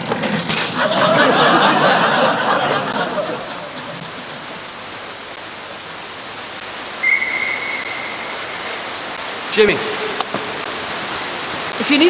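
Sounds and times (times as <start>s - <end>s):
running water rushing: 0.8s - 12.0s.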